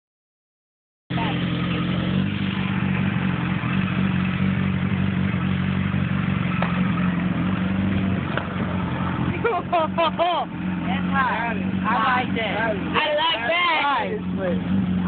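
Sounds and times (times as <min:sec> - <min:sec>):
motorcycle engine idling: 0:01.1 - 0:15.0.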